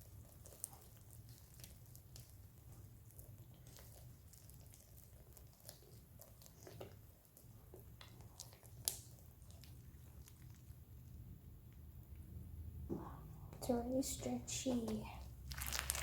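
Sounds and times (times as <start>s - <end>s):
sticky slime squishes: 0.0s - 12.2s, 13.6s - 16.0s.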